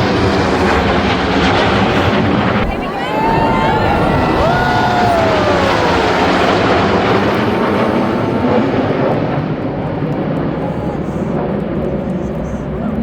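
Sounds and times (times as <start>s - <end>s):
aircraft flying low overhead: 0.0s - 13.0s.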